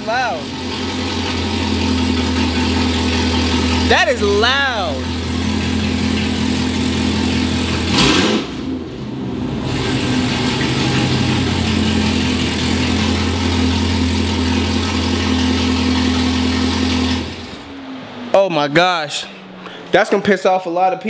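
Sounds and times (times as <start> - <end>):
loud car engine idling and revving: 0.0 - 21.0.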